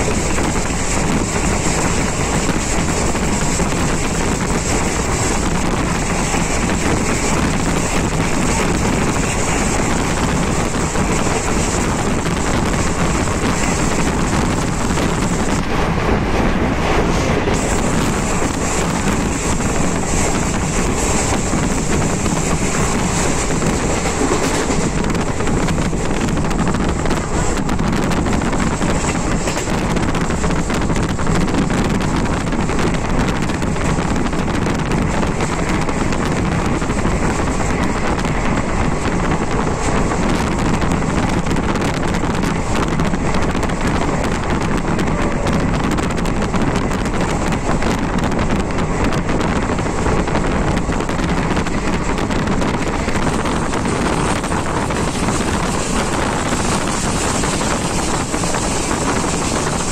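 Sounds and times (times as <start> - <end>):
vehicle rumble: 0.0 - 59.9
wind buffeting microphone: 0.0 - 59.9.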